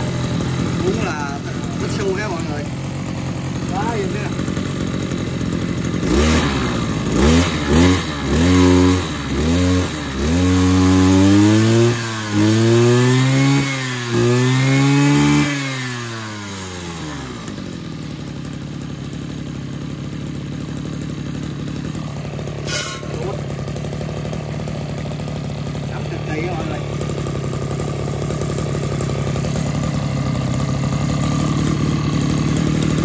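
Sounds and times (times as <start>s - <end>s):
brush cutter engine revving: 0.0s - 33.0s.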